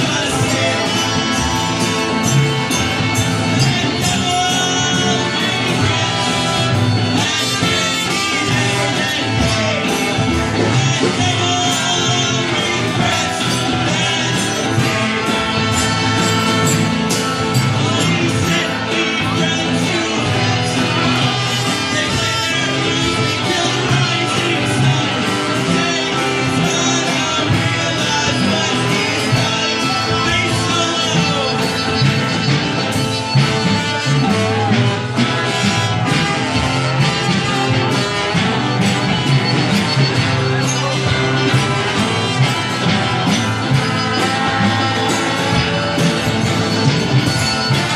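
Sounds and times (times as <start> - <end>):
bass guitar: 0.0 - 47.9
drums: 0.0 - 47.9
electric guitar: 0.0 - 47.9
person singing: 0.0 - 47.9.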